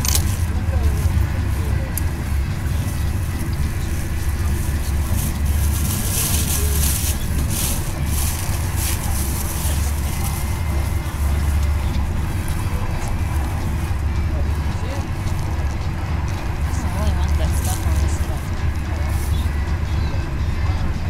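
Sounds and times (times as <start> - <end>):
passenger train rumbling on rails: 0.0 - 21.0.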